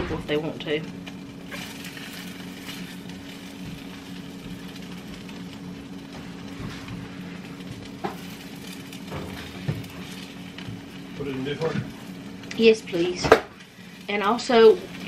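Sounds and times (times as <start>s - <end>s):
eggs sizzling in a pan: 0.0s - 15.0s
spatula working in a pan: 0.0s - 15.0s
steady low hum: 0.0s - 15.0s.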